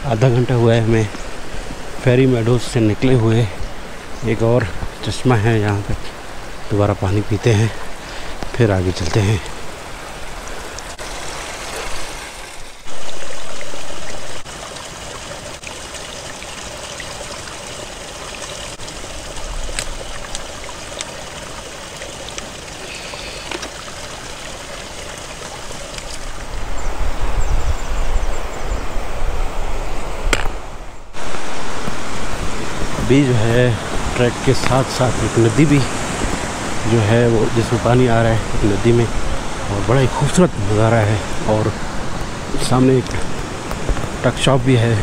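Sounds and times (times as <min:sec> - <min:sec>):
water running over rocks: 0:00.0 - 0:28.4, 0:29.2 - 0:45.0.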